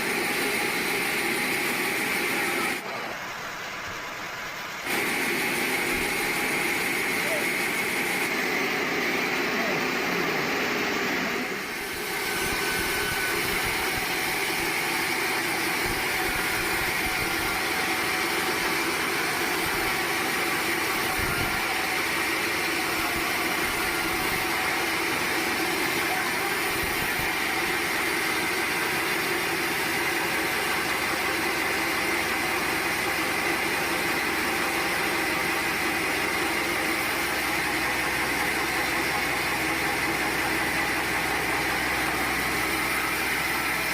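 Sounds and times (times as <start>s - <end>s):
sawmill machinery droning: 0.0s - 43.9s.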